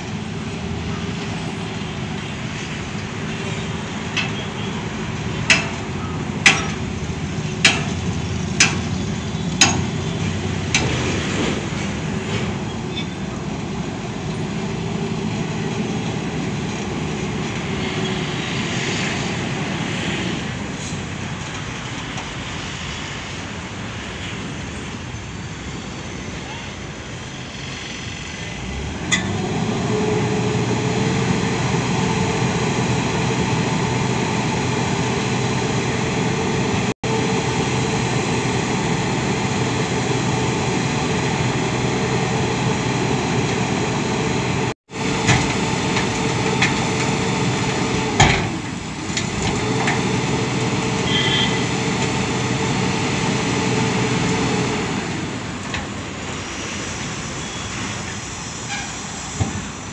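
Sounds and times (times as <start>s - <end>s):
diesel truck engine running: 0.0s - 23.7s, 25.8s - 58.0s.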